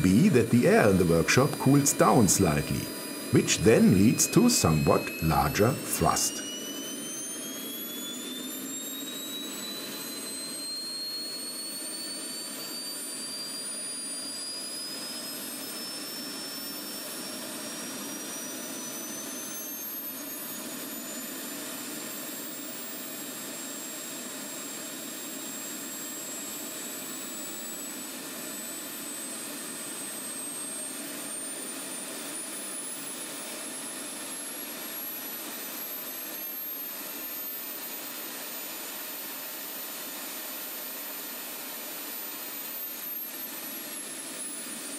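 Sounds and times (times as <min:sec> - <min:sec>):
jet turbine whine: 0:00.0 - 0:44.9.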